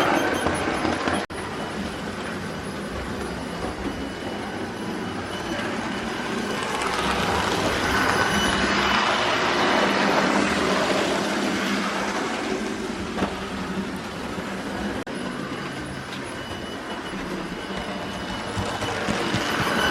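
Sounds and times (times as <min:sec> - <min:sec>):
wheels rumbling on track: 0:00.0 - 0:19.9.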